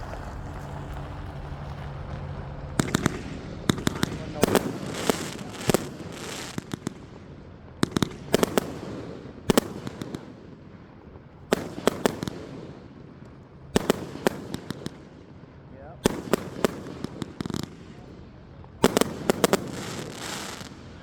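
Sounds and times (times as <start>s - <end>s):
fireworks banging: 0.0s - 15.1s, 16.0s - 21.0s
fireworks crackle: 0.0s - 15.2s, 16.0s - 21.0s.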